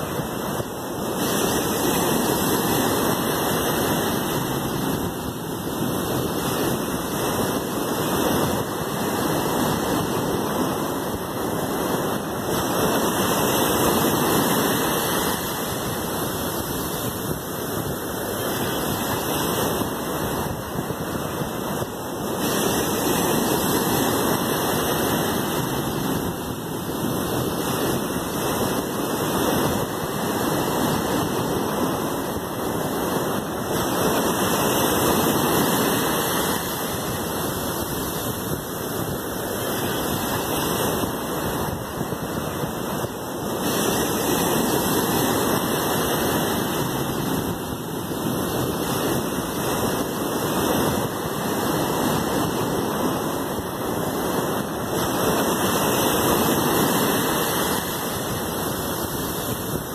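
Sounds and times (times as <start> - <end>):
ocean surf breaking on a beach: 0.0 - 59.9.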